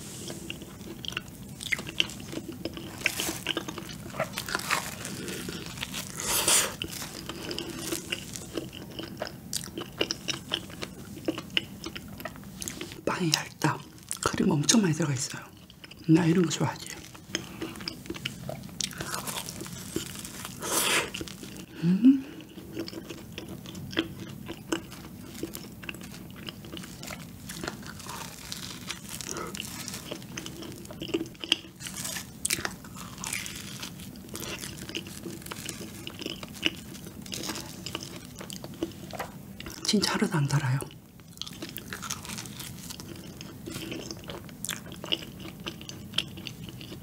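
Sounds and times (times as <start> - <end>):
biting and chewing donut: 0.2 - 13.0, 16.8 - 40.0, 41.2 - 47.0.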